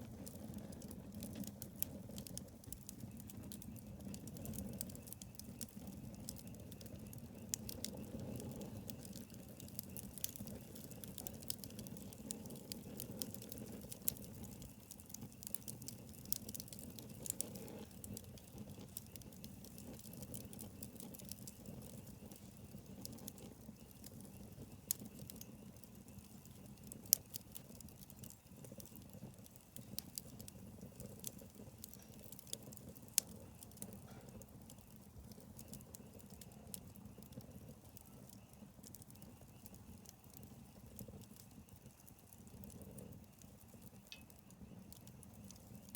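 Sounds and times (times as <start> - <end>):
bonfire crackling and popping: 0.0 - 45.9
low rush of flames: 0.0 - 45.9.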